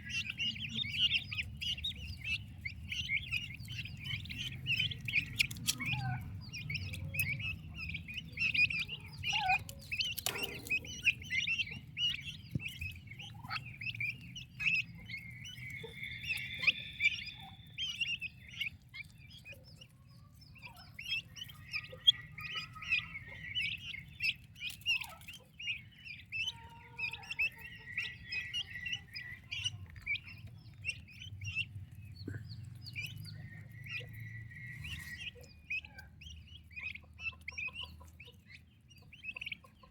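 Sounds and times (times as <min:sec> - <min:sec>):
poults peeping: 0:00.0 - 0:39.9.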